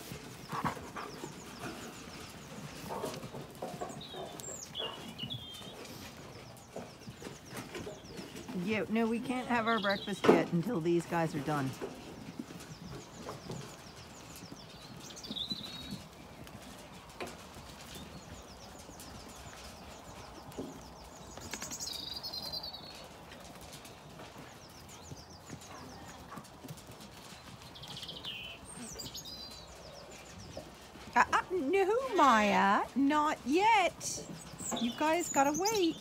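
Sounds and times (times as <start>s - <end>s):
sheep hooves tapping and shuffling: 0.0s - 36.0s.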